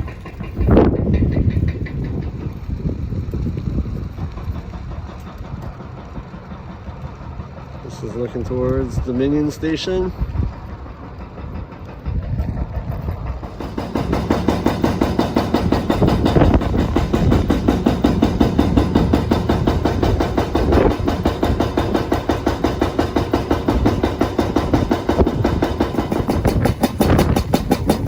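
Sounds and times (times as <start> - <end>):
small engine pulsing: 0.0 - 28.0.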